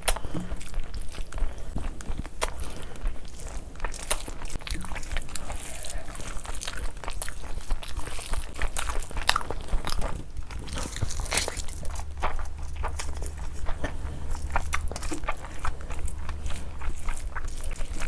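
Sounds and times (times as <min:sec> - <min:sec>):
hand mixing wet rice: 0:00.0 - 0:18.0
person chewing food: 0:00.0 - 0:18.0.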